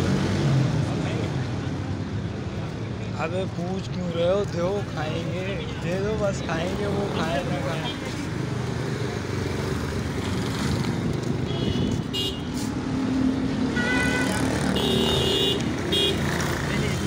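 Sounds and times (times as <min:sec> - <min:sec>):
passing cars and motorcycles: 0:00.0 - 0:17.0.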